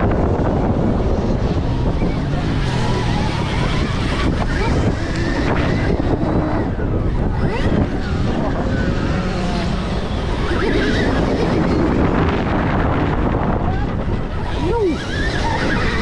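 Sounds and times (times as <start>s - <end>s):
electric motor whine: 0.0s - 16.0s
wind buffeting microphone: 0.0s - 16.0s.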